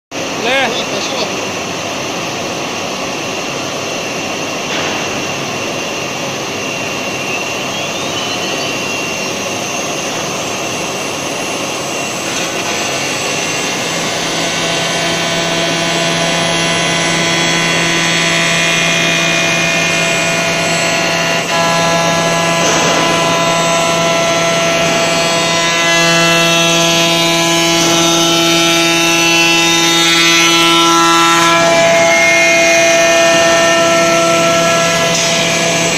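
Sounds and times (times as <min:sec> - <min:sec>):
cnc router machining: 0:00.2 - 0:35.9
steady multi-tone whine: 0:00.2 - 0:35.9.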